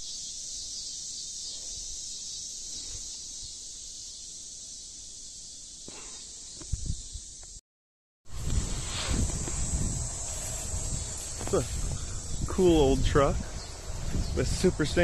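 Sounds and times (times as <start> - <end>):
insect chorus drone: 0.0 - 7.6, 8.3 - 15.0.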